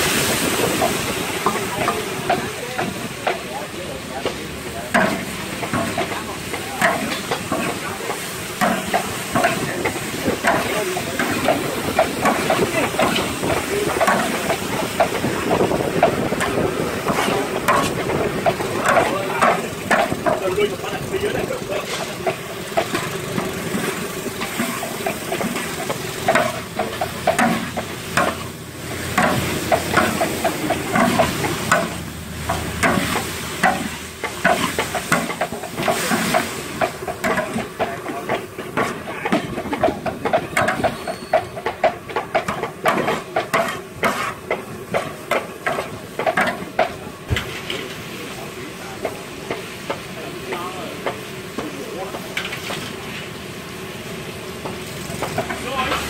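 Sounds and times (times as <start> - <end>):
food sizzling in a pan: 0.0 - 41.7, 42.3 - 56.0
utensil scraping and clacking on pan: 4.2 - 48.0, 49.0 - 53.2, 54.6 - 56.0.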